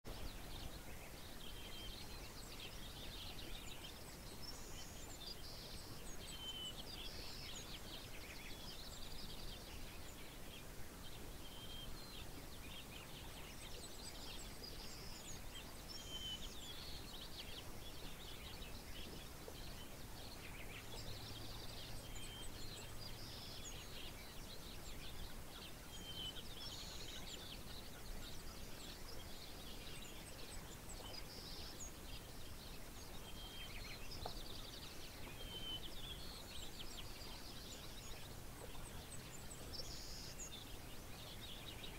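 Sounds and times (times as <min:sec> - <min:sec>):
steady background hiss: 0:00.1 - 0:41.9.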